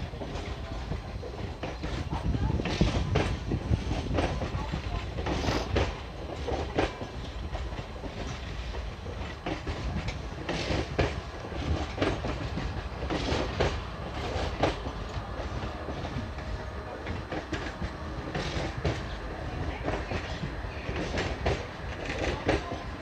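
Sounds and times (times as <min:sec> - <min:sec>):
train low rumble: 0:00.0 - 0:23.0
train wheels clacking on track: 0:00.0 - 0:23.0.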